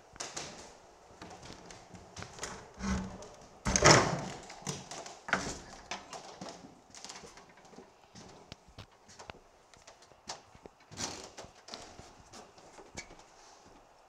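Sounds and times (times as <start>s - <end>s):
footsteps and taps: 0.1s - 3.5s, 4.4s - 13.9s.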